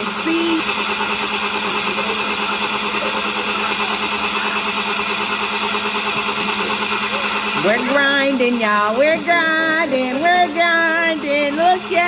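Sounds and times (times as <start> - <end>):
electric spice grinder whirring: 0.0 - 12.0.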